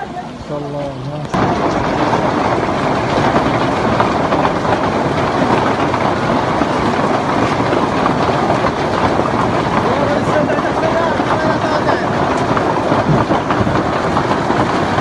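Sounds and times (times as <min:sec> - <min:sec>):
hail clattering: 0:00.0 - 0:15.0
rain falling: 0:00.0 - 0:15.0.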